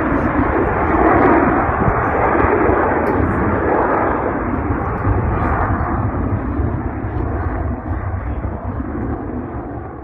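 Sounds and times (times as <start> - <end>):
airplane flying overhead: 0.0 - 10.0.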